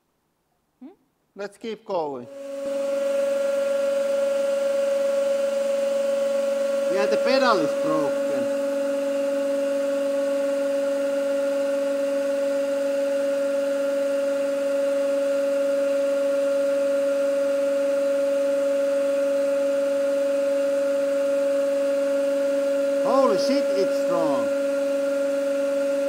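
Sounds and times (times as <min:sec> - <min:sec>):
hydraulic press motor whine: 0:02.3 - 0:26.0.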